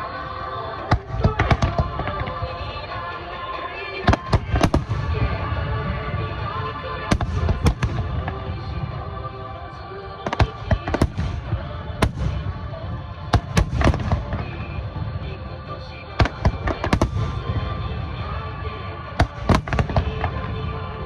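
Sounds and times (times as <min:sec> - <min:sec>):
background music: 0:00.0 - 0:21.0
fireworks bangs and crackles: 0:00.0 - 0:21.0.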